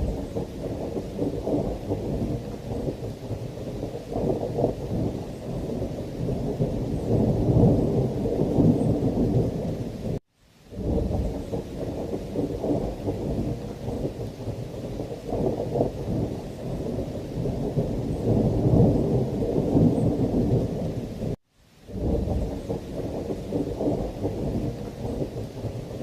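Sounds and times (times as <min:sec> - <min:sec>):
heavy rain: 0:00.0 - 0:26.0
rolling thunder: 0:00.0 - 0:26.0.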